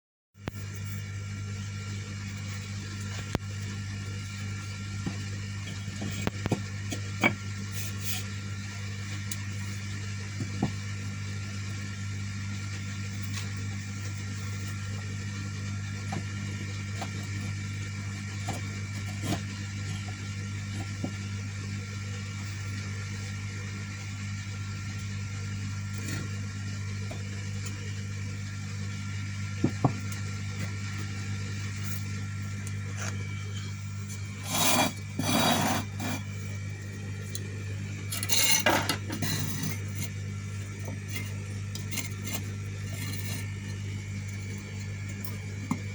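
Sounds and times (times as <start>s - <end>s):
low electric hum: 0.4s - 45.9s.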